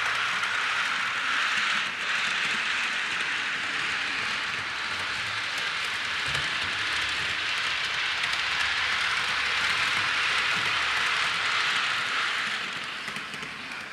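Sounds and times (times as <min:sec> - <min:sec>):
train wheels rushing on rails: 0:00.0 - 0:13.9.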